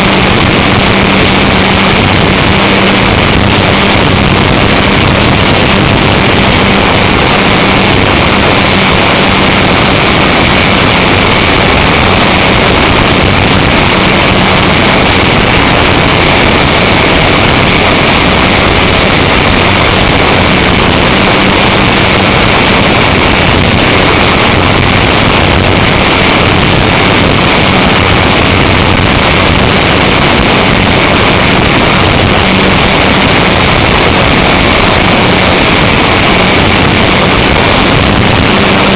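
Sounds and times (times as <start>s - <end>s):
electric motor and propeller whine: 0.0s - 38.9s
wind rush: 0.0s - 38.9s.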